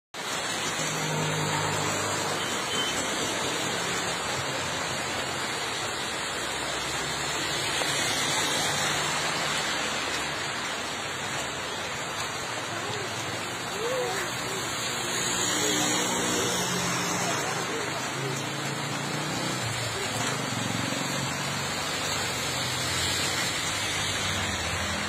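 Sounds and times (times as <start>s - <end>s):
rain falling on wet road: 0.2s - 25.0s.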